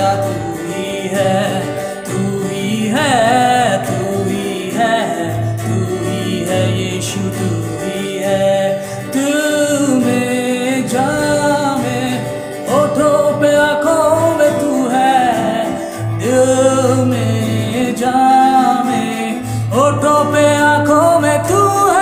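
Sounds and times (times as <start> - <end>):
man singing long held notes: 0.0 - 22.0
strummed acoustic guitar: 0.0 - 22.0.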